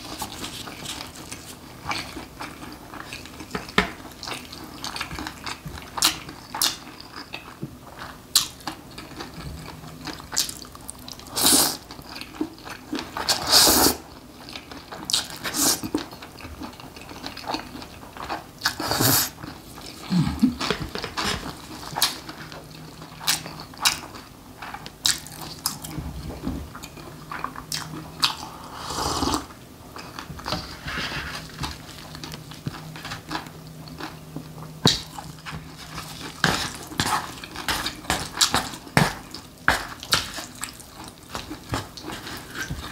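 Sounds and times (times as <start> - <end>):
chewing: 0.0 - 42.9.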